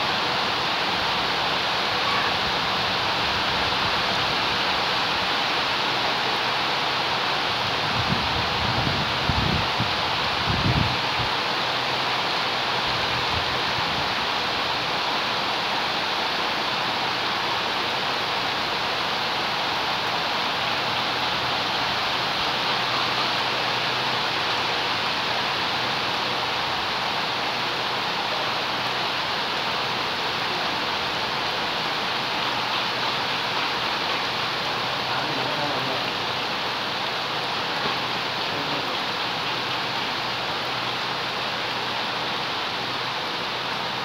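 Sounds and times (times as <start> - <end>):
rain falling on leaves: 0.0 - 44.0.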